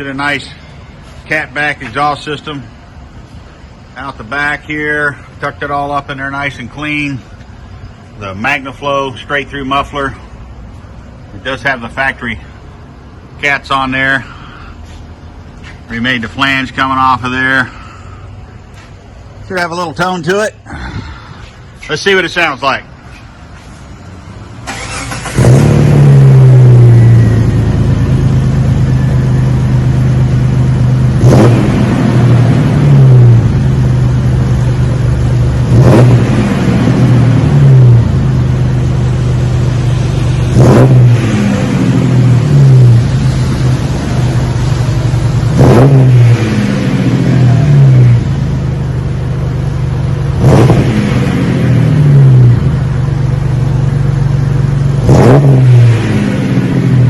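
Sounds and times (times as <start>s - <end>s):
car engine idling and revving: 0.0s - 57.0s
car engine starting: 0.0s - 57.0s.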